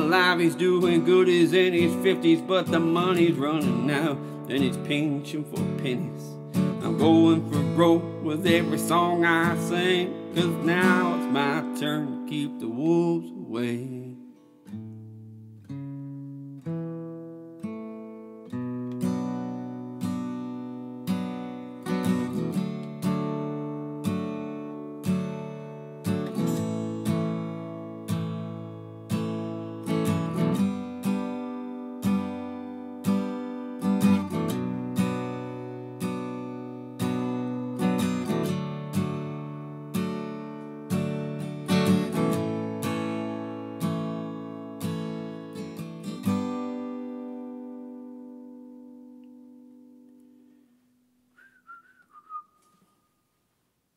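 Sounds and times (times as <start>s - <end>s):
acoustic guitar strummed chords: 0.0s - 50.7s.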